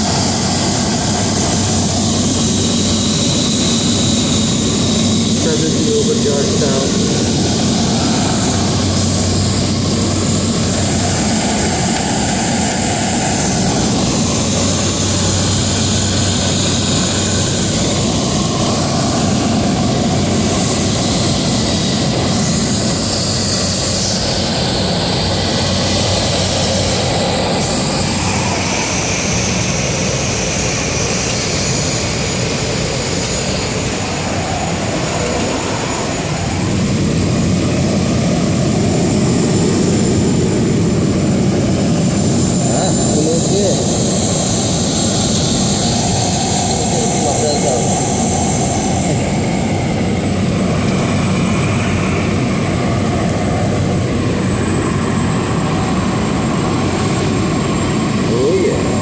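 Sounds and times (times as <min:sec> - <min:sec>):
aircraft propeller engine drone: 0:00.0 - 0:59.0
rushing air: 0:00.0 - 0:59.0.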